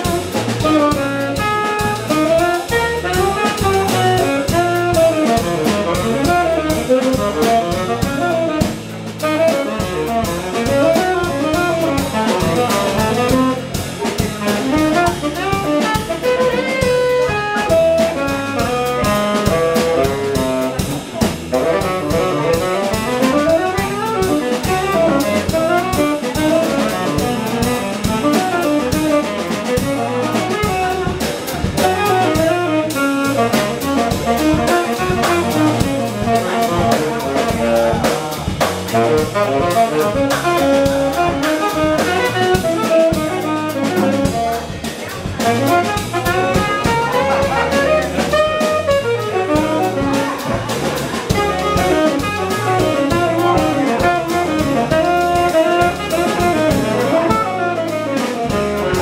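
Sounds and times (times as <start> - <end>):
drum kit: 0.0 - 59.0
guitar: 0.0 - 59.0
saxophone melody: 0.0 - 59.0.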